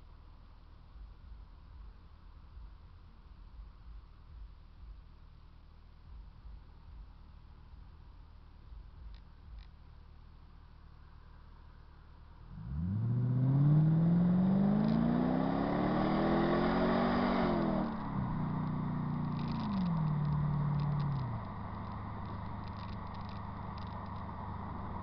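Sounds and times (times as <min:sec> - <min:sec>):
car engine exhaust accelerating: 0:00.7 - 0:25.0.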